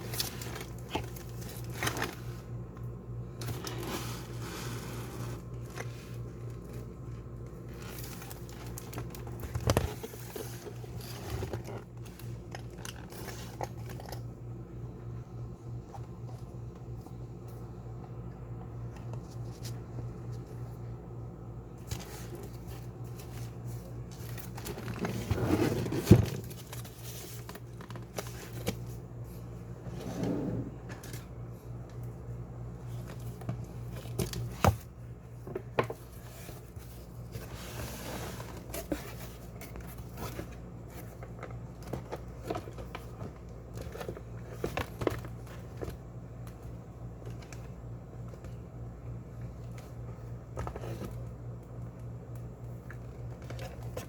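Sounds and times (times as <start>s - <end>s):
packaging crinkling and rustling: 0.0s - 14.4s, 21.6s - 29.9s, 30.7s - 54.0s
steady low hum: 0.0s - 54.0s.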